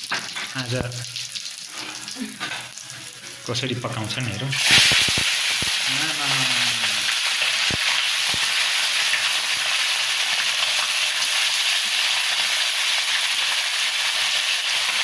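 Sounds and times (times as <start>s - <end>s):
meat sizzling in a wok: 0.0s - 3.4s, 4.5s - 15.0s.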